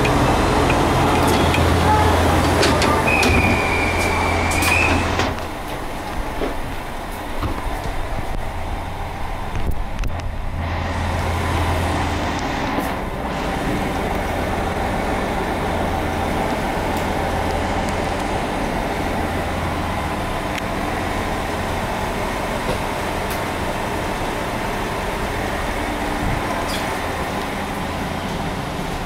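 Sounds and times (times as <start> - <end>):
electric train equipment hum: 0.0 - 29.0.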